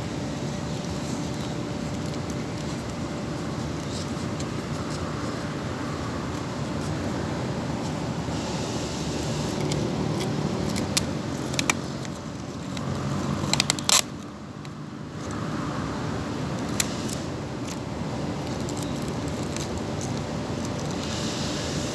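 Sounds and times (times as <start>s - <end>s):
traffic hum: 0.0s - 21.9s.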